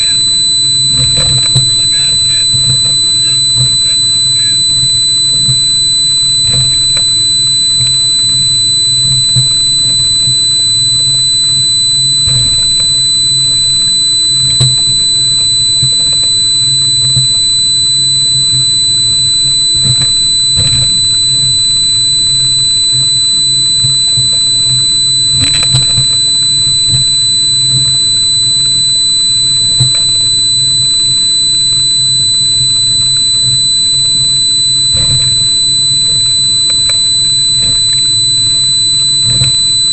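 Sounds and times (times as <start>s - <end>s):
outboard motors droning: 0.0s - 39.9s.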